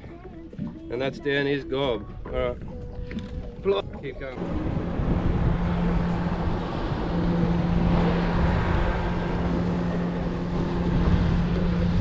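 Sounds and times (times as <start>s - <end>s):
boat motor hum: 0.0s - 12.0s
wind buffeting microphone: 0.6s - 12.0s.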